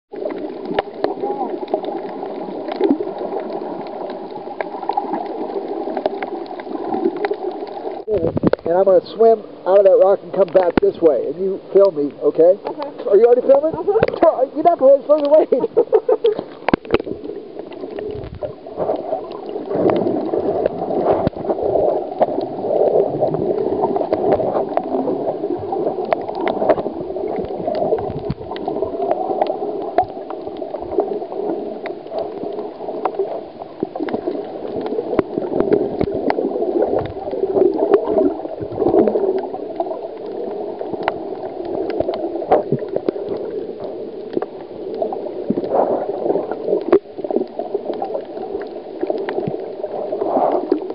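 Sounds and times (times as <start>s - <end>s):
muffled underwater rush of water: 0.1s - 50.9s
sharp underwater clicks and crackles: 0.1s - 50.9s.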